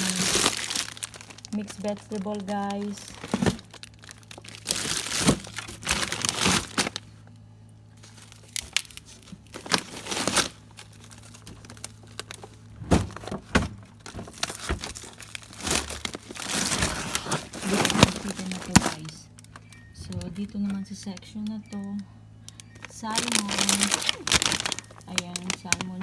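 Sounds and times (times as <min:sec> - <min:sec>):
plastic bags crinkling: 0:00.0 - 0:07.2, 0:08.0 - 0:20.8, 0:22.5 - 0:26.0
steady low hum: 0:00.0 - 0:26.0.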